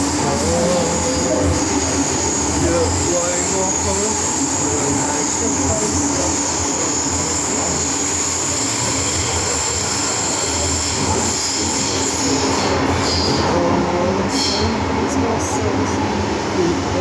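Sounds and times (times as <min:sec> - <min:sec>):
train wheel and running noise: 0:00.0 - 0:17.0.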